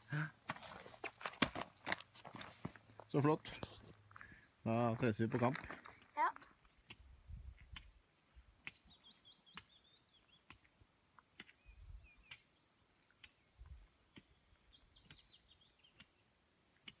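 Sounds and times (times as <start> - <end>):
songbird song: 2.7 - 17.0.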